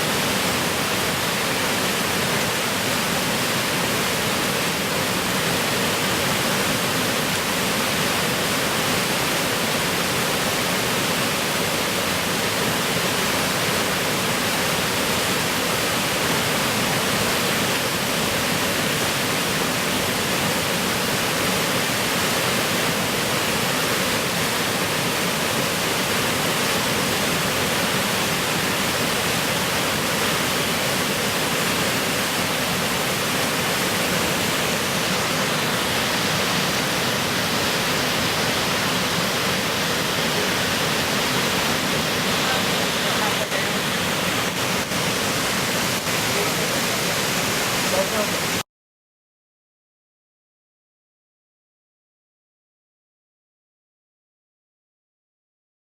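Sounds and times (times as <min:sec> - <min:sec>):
waterfall rushing: 0:00.0 - 0:48.6.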